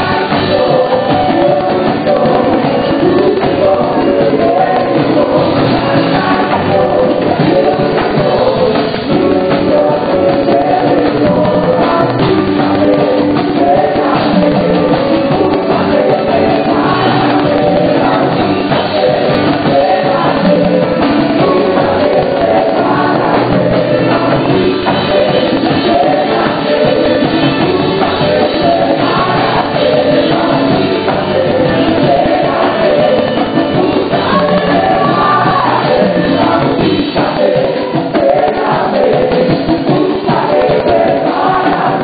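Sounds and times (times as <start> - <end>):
keyboard and percussion band: 0.0 - 42.0
voices singing along: 0.0 - 42.0
woman singing into microphone: 0.0 - 42.0.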